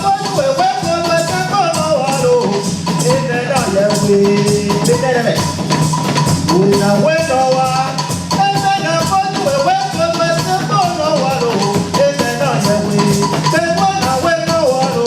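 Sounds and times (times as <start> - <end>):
melody over steady bass: 0.0 - 15.0
shaker-like percussion: 0.0 - 15.0.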